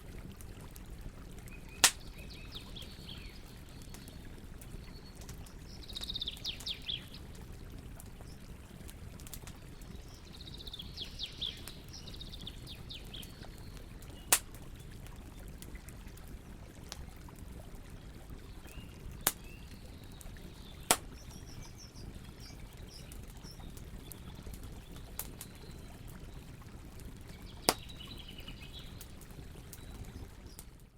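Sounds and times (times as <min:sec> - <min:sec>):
campfire burning: 0:00.0 - 0:30.9
fire popping: 0:00.0 - 0:30.9.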